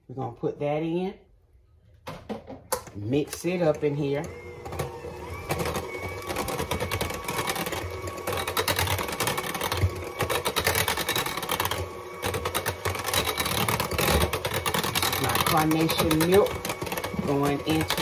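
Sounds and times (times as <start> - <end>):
electric hand mixer rattling in bowl: 3.3 - 18.0.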